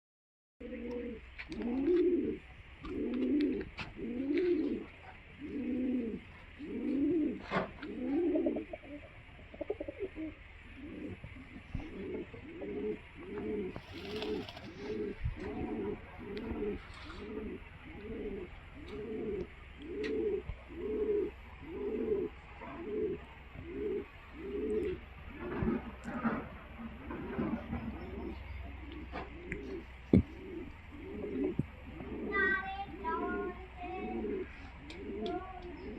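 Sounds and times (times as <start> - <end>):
pigeons cooing: 0.6 - 35.9.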